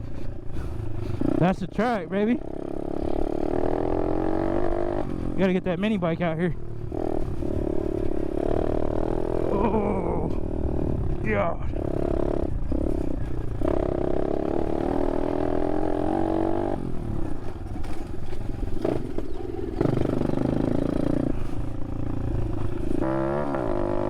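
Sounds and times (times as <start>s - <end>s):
dirt bike engine revving: 0.6s - 24.0s.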